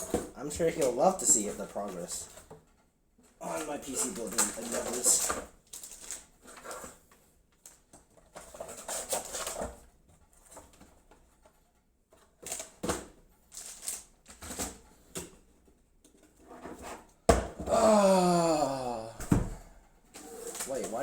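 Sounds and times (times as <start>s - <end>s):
rustling of packaging and parts: 0.0s - 21.0s.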